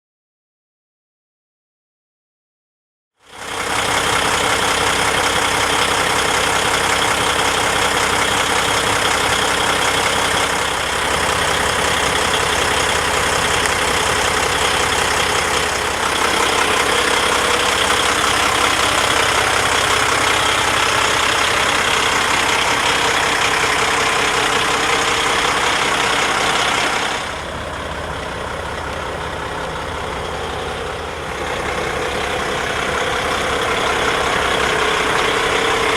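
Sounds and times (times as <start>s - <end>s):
diesel engine idling: 3.2s - 35.9s.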